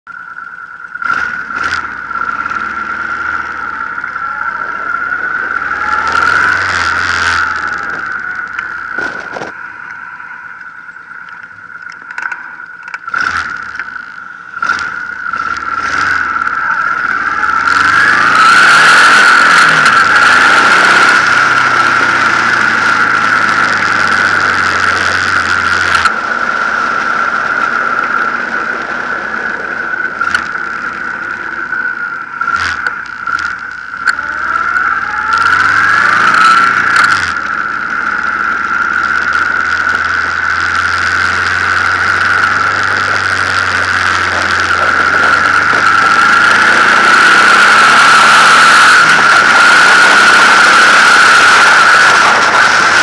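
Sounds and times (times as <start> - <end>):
high-pitched whine: 0.1 - 53.0
motorcycle engine accelerating: 0.1 - 53.0
rushing wind: 1.0 - 53.0.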